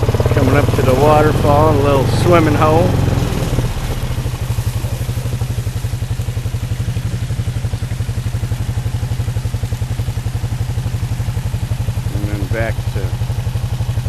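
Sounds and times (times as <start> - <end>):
small engine running steadily: 0.0 - 14.0.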